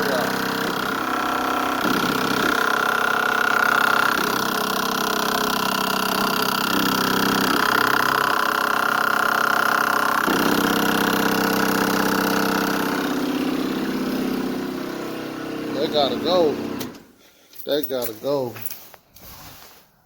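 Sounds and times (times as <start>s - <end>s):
electric fuel pump whine: 0.0s - 17.2s.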